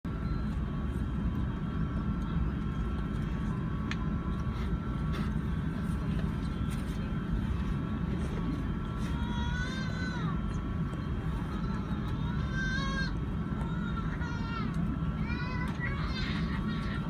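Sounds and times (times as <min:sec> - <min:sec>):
jet engines rumbling and whining: 0:00.1 - 0:17.0.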